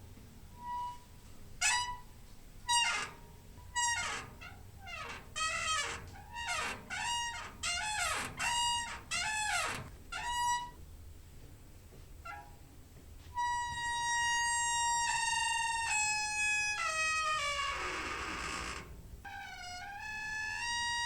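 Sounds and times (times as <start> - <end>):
door hinge squeaking: 0.6 - 10.8, 12.2 - 12.6, 13.4 - 21.0.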